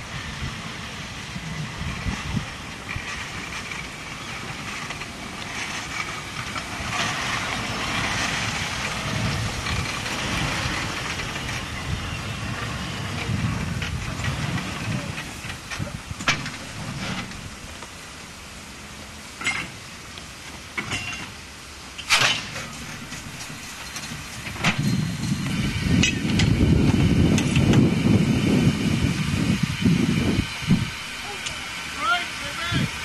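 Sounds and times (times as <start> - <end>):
rumble of running train: 0.0 - 33.0
steam train hissing steam: 0.0 - 33.0.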